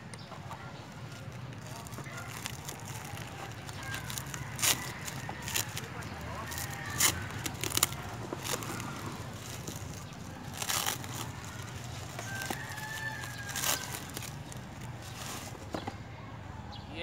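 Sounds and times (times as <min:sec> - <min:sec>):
bubble wrap crinkling: 0:00.1 - 0:15.7.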